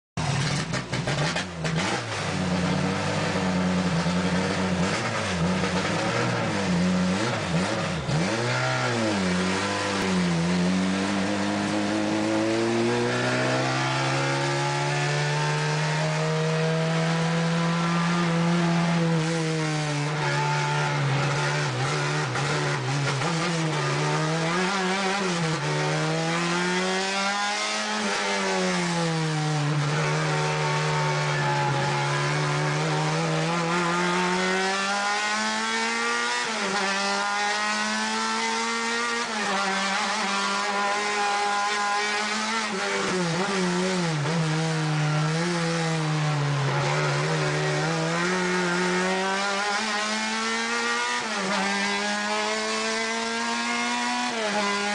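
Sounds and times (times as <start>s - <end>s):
race car engine revving: 0.2s - 54.9s.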